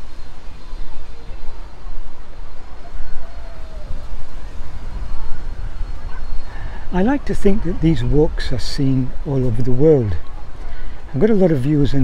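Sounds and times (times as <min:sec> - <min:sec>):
faint background sounds: 0:00.0 - 0:12.0.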